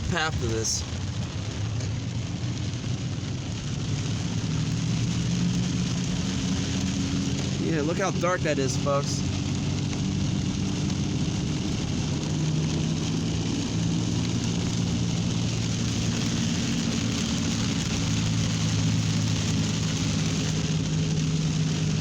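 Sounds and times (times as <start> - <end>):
hiss of wind or light rain: 0.0 - 22.0
low motor hum: 0.0 - 22.0.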